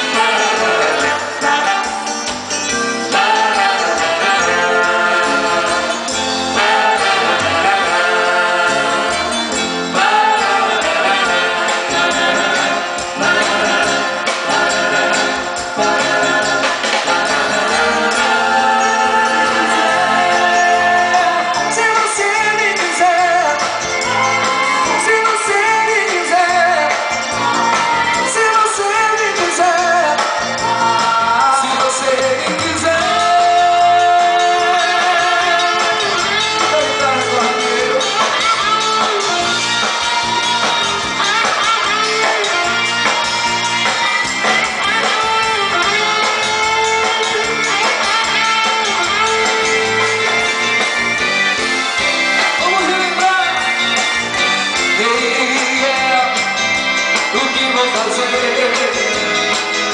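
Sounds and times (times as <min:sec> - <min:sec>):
guitar: 0:00.0 - 0:59.9
lead vocals: 0:00.0 - 0:59.9
live band playing pop song: 0:00.0 - 0:59.9.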